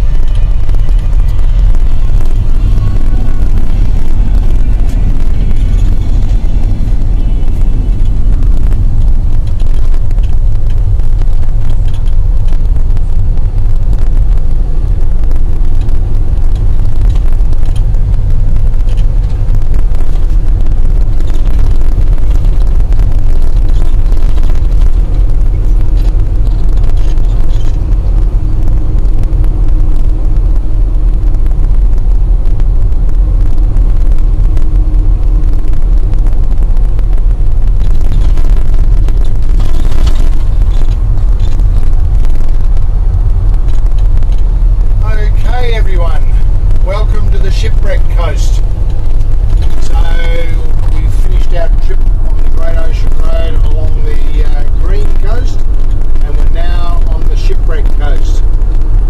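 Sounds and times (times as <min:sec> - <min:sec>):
vehicle engine and tyre noise: 0:00.0 - 0:59.0.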